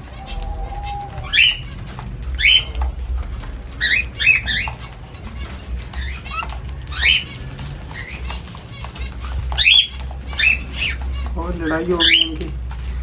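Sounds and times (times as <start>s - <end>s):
cockatiels chirping: 0.0s - 13.0s.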